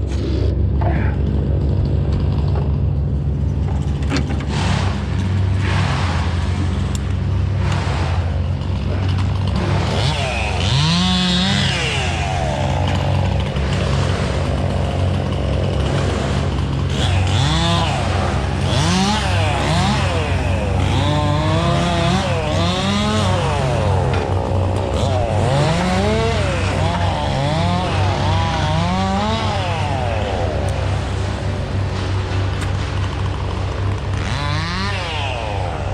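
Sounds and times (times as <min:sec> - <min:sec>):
chainsaw engine revving: 0:00.0 - 0:35.9
low engine drone: 0:00.0 - 0:35.9.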